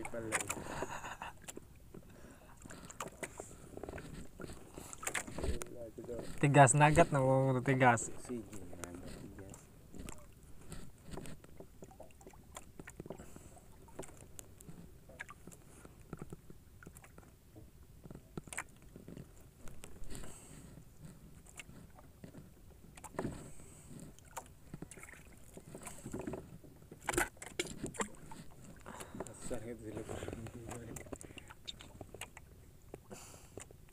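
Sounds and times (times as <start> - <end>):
faint water wash: 0.0 - 22.0, 23.0 - 33.9.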